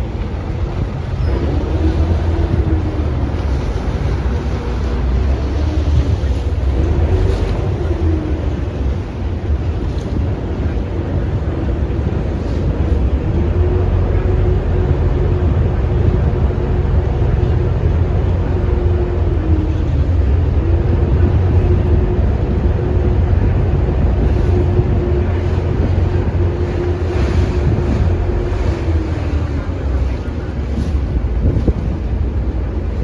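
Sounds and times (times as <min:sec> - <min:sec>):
ferry engine droning: 0:00.0 - 0:33.0
wind buffeting microphone: 0:00.0 - 0:33.0.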